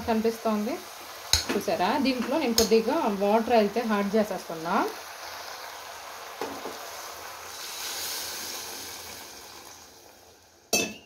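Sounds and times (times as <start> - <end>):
water hissing in hot cooker: 0.0 - 10.8.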